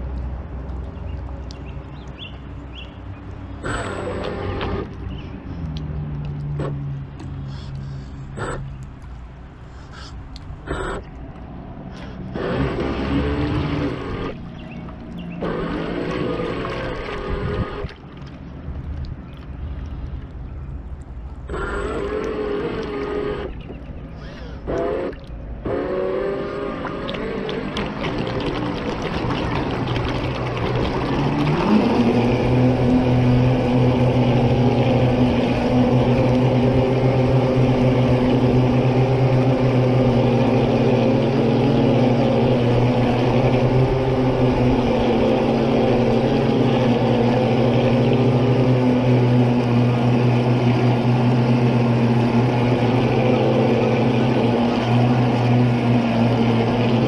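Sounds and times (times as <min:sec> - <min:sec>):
boat motor humming: 0:00.0 - 0:57.0
water noise from hull: 0:00.0 - 0:57.0.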